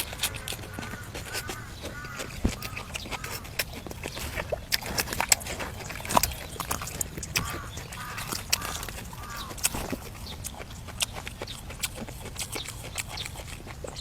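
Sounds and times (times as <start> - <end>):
man chewing wetly: 0.0 - 14.0.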